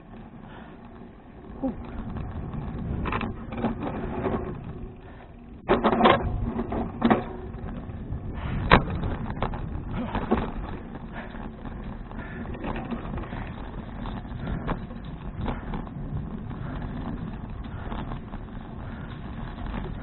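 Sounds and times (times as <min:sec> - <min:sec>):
bicycle tyre and wind rumble: 0:00.0 - 0:20.0
bicycle frame rattling knocks: 0:00.5 - 0:20.0.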